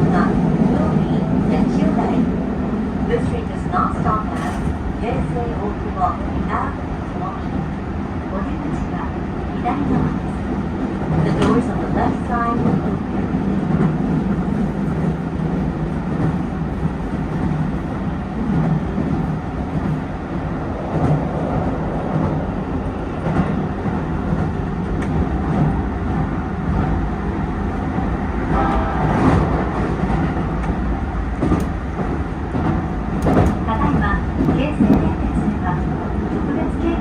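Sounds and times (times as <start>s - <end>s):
electric train rolling rumble: 0.0s - 37.0s.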